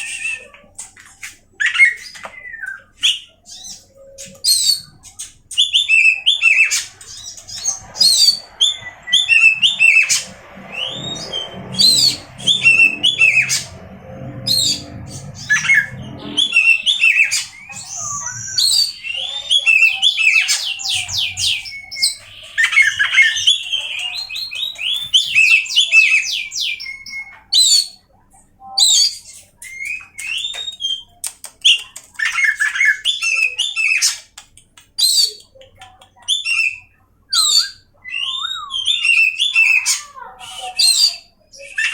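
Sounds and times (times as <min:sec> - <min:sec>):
songbird whistling and chirping: 0:00.0 - 0:00.9, 0:01.6 - 0:34.2, 0:35.0 - 0:35.6, 0:36.2 - 0:41.9.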